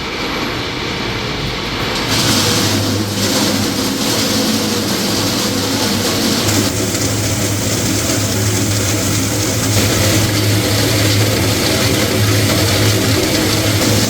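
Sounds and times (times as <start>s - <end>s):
machinery low hum: 0.0s - 14.0s
even hiss: 1.9s - 14.0s.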